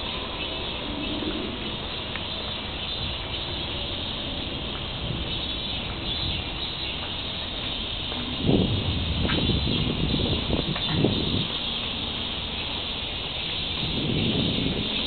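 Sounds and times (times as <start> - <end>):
insects chirring: 0.0 - 15.0
outdoor background hiss: 0.0 - 15.0.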